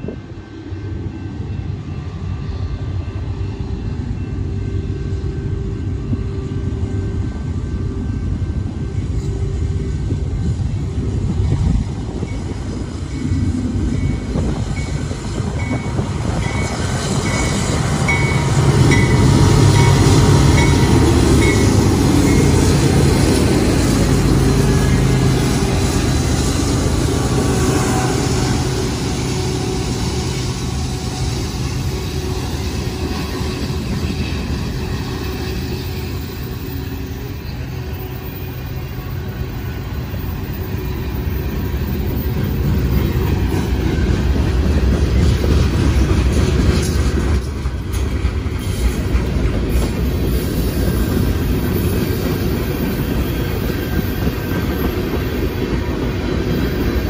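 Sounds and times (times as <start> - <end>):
locomotive engines rumbling: 0.0 - 57.0.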